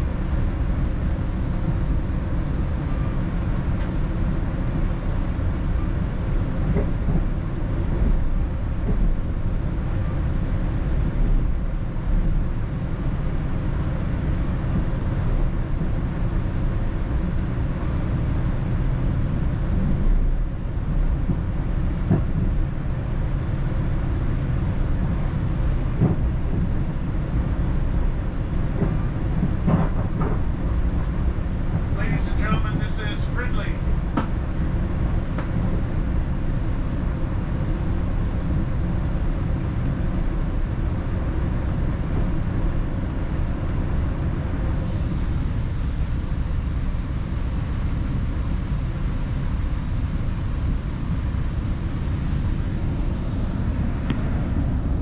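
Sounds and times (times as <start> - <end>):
train rumbling along track: 0.0 - 55.0.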